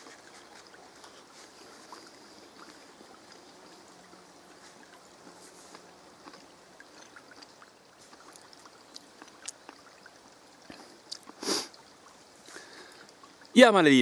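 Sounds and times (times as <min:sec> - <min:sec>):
faint trickling hiss: 0:00.0 - 0:14.0.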